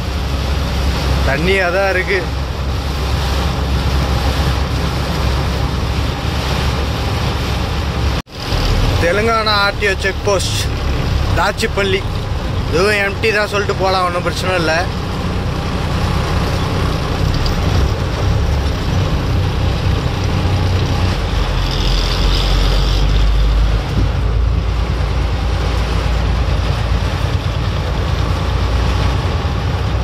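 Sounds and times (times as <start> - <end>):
engine and tyres rumbling: 0.0 - 30.0
rain hissing on windscreen: 0.0 - 30.0.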